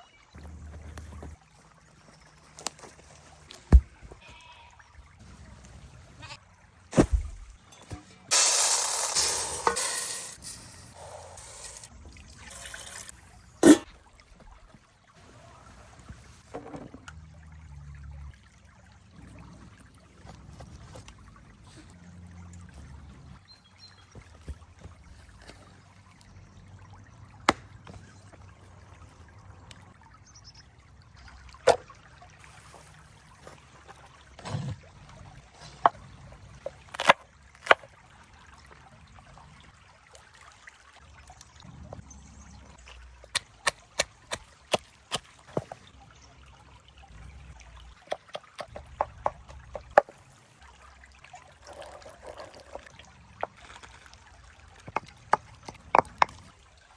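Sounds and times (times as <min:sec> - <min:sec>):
water trickling: 0:00.0 - 0:56.9.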